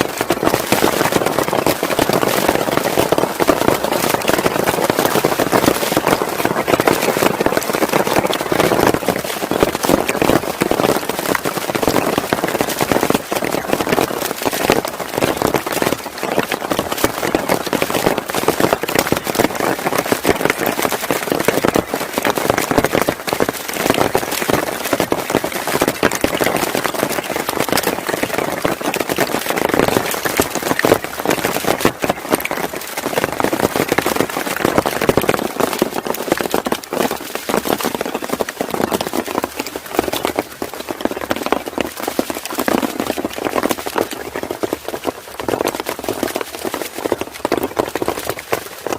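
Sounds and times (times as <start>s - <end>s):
heavy rain on hard surface: 0.0s - 48.9s.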